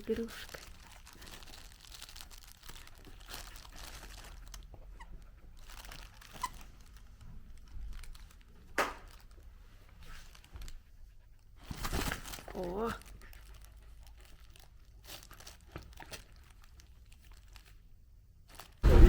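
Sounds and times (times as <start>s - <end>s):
crinkle toy rustling: 0.0s - 19.0s.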